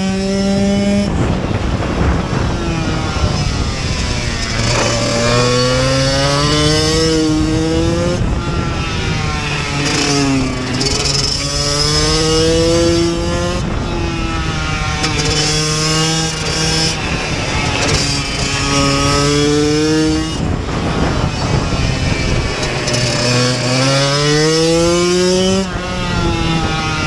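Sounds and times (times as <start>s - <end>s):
two-stroke motorbike engine revving: 0.0s - 27.0s.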